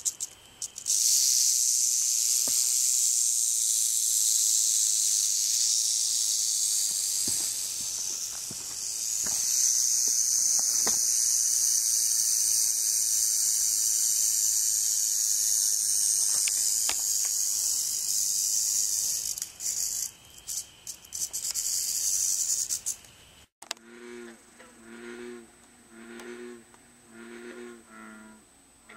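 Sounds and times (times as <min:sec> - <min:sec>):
rattlesnake rattle buzzing: 0:00.0 - 0:23.5.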